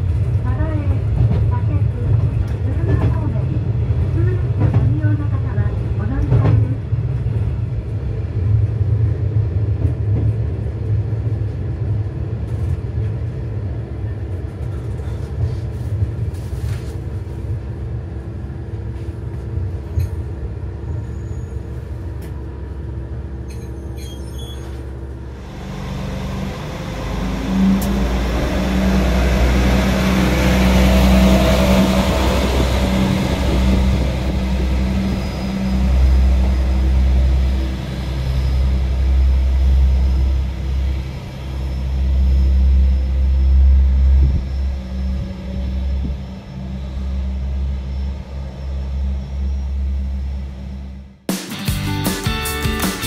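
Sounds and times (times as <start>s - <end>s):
diesel railcar engine rumble: 0.0s - 53.0s
train running noise: 0.0s - 53.0s.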